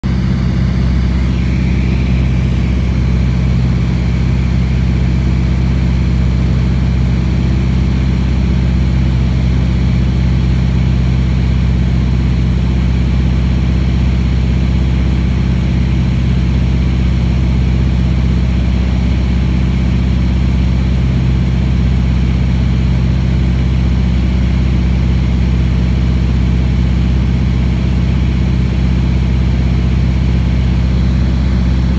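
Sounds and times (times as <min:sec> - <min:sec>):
propeller plane engine drone: 0:00.0 - 0:31.9.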